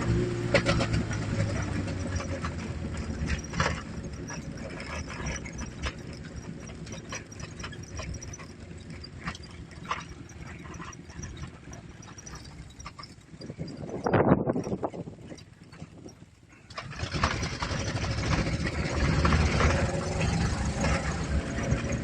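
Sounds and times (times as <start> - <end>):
small engine running at low revs: 0.0 - 22.0.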